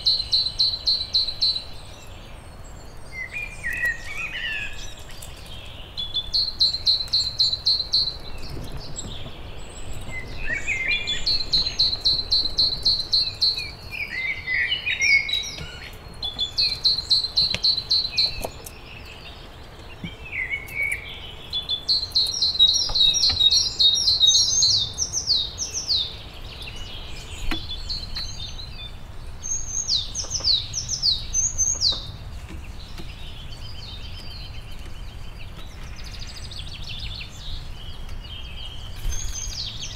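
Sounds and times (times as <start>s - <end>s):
songbirds singing trilled notes: 0.0s - 39.9s.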